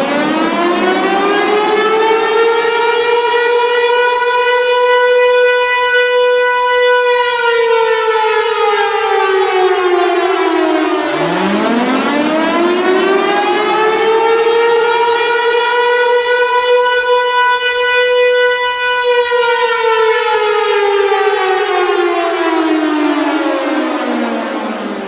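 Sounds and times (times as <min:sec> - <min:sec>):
air-raid siren wailing: 0:00.0 - 0:25.0.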